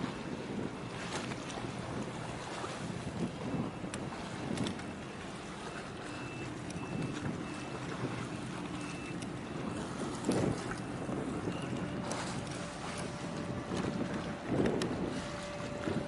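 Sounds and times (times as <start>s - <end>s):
ship engine humming: 0.0s - 16.0s
wind buffeting microphone: 0.0s - 16.0s.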